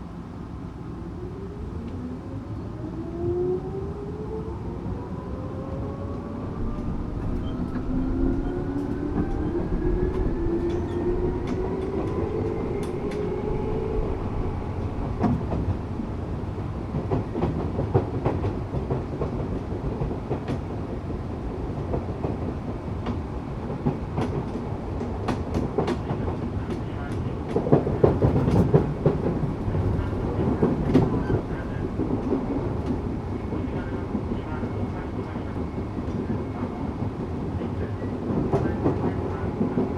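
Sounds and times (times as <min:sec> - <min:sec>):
train wheels rumbling: 0:04.9 - 0:39.9
rail joint clicks: 0:06.1 - 0:39.9.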